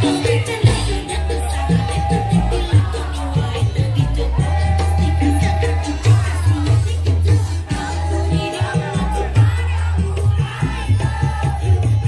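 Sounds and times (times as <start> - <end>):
loud dance music: 0.0 - 12.0
person singing: 0.0 - 12.0.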